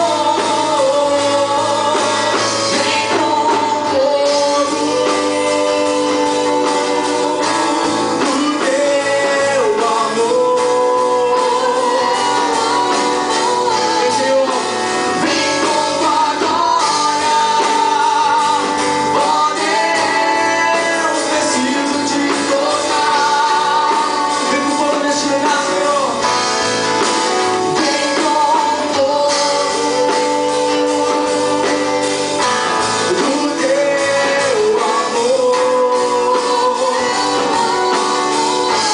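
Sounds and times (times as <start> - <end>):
gospel singing: 0.0 - 38.9
guitar and band accompaniment: 0.0 - 38.9.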